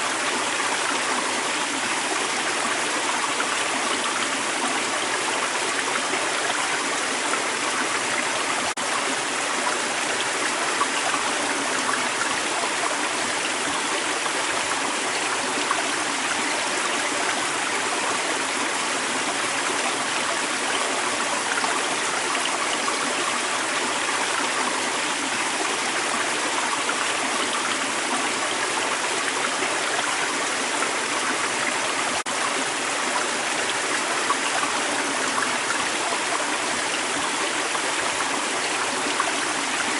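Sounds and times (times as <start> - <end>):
creek water babbling: 0.0 - 39.9.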